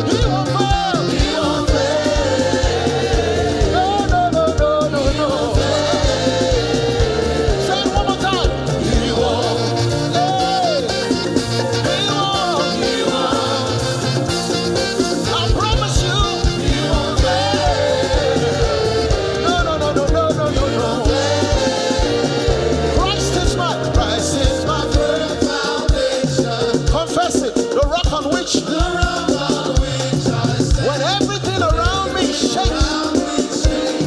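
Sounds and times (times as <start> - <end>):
dense percussion beat: 0.0 - 34.0
voices singing: 0.0 - 34.0.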